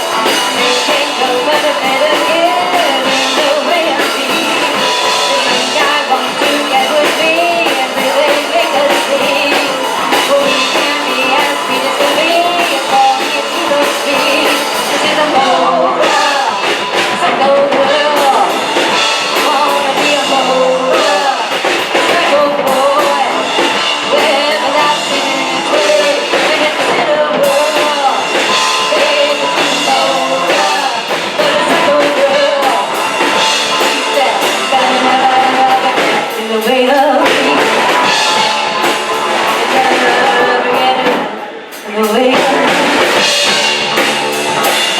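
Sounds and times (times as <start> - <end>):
drum kit: 0.0 - 44.9
electric guitar: 0.0 - 44.9
lead vocal singing: 0.0 - 44.9.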